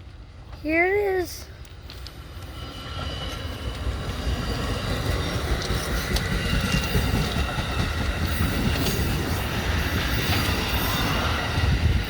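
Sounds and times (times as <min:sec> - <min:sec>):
passenger train rumbling past: 0:00.0 - 0:12.0.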